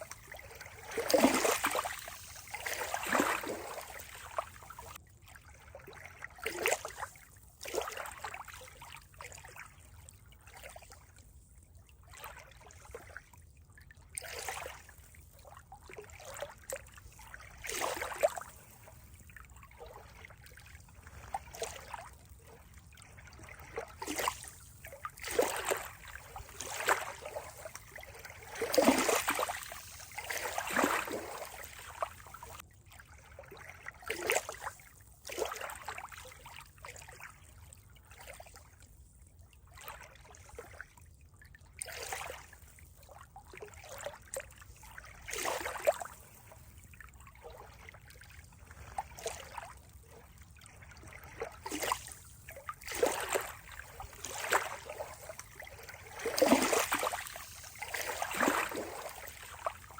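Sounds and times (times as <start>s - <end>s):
water splashes: 0.0s - 11.2s, 14.0s - 39.0s, 41.7s - 59.9s
water trickling and gurgling: 0.0s - 59.9s.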